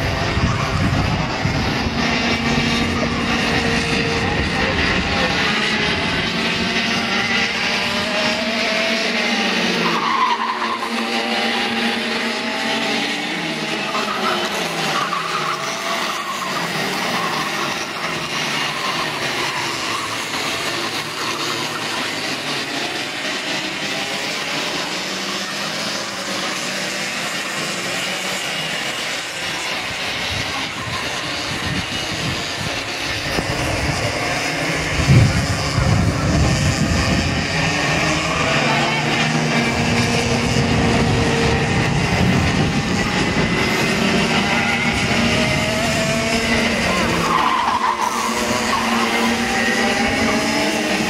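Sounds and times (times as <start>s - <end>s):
kart engines buzzing: 0.0s - 51.0s.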